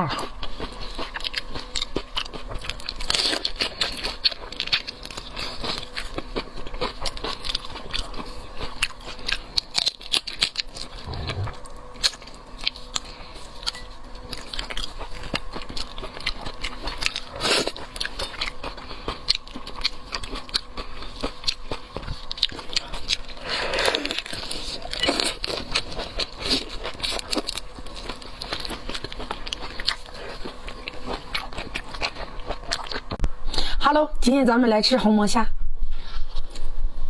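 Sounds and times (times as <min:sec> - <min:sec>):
person chewing and crunching food: 0:00.0 - 0:33.8.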